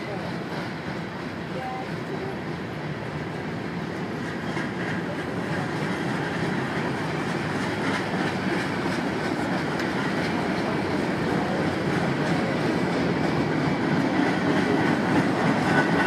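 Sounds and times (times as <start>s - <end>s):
freight train wheels rumbling: 0.0s - 16.0s
wheels clicking over rail joints: 0.0s - 16.0s.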